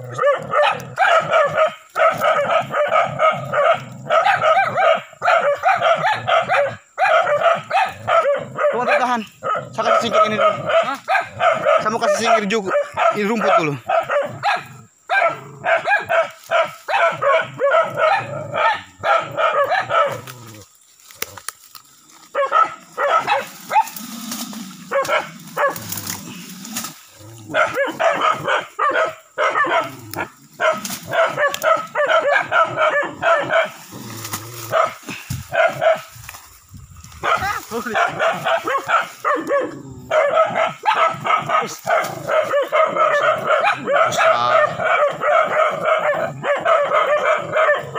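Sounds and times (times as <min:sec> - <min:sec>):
dogs barking rapidly: 0:00.0 - 0:20.6, 0:22.2 - 0:36.3, 0:37.1 - 0:47.9.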